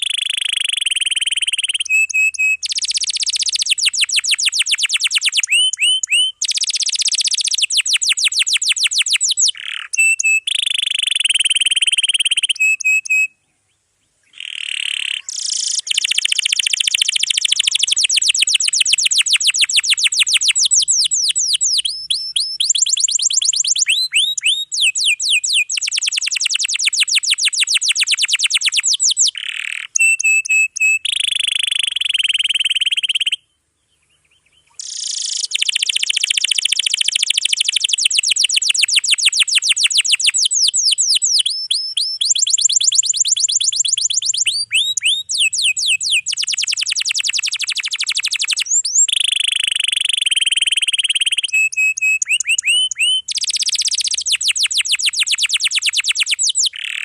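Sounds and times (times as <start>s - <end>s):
canary singing in rolling trills: 0.0s - 13.4s, 14.2s - 33.5s, 34.1s - 57.0s.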